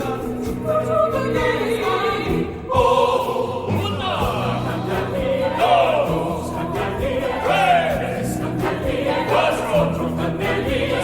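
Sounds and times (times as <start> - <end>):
choir singing: 0.0 - 11.0
instrumental accompaniment: 0.0 - 11.0.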